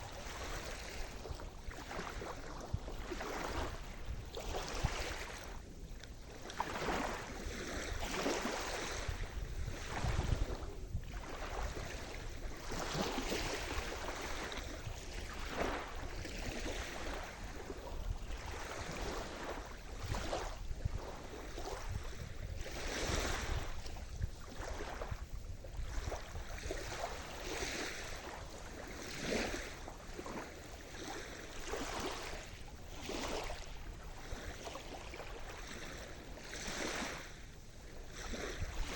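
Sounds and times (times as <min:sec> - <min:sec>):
small waves breaking: 0:00.0 - 0:38.9
wind: 0:00.0 - 0:38.9.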